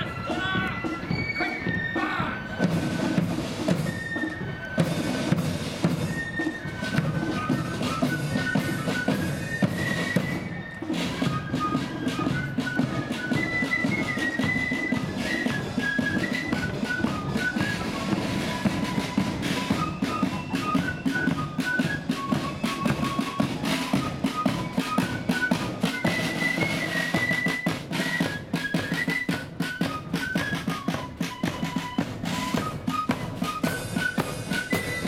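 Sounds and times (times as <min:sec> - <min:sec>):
cymbals: 0:00.0 - 0:35.0
flutes playing march melody: 0:00.0 - 0:35.0.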